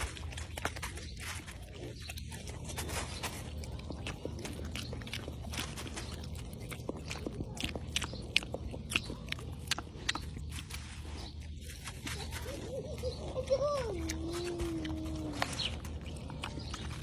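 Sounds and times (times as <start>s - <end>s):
animal chewing and crunching food: 0.0s - 17.0s
steady low hum: 0.0s - 17.0s.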